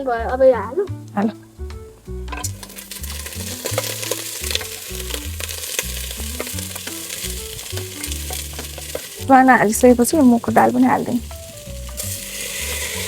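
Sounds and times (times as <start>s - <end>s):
soft background music: 0.0s - 13.0s
meat sizzling in hot oil: 1.6s - 13.0s.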